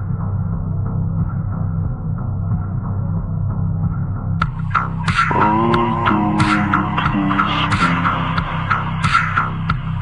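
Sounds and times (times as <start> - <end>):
slowed electronic pop music: 0.0 - 10.0.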